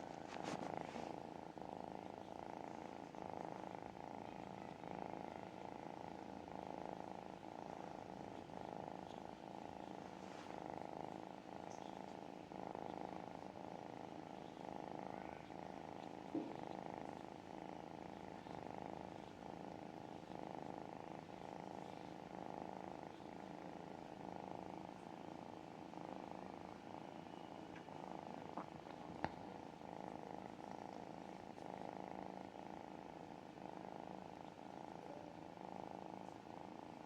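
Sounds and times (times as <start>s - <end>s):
kitten purring: 0.0s - 37.0s.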